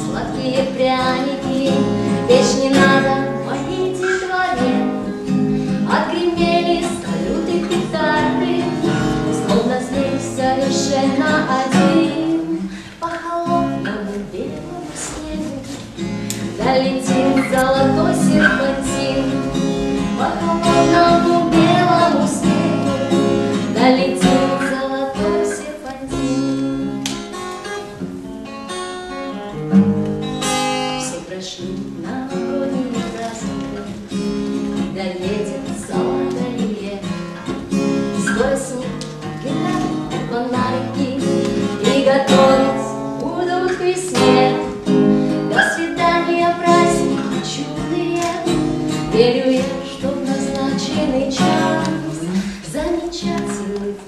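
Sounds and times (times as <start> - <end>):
woman singing: 0.0 - 26.9, 30.4 - 54.0
acoustic guitar strumming: 0.0 - 54.0.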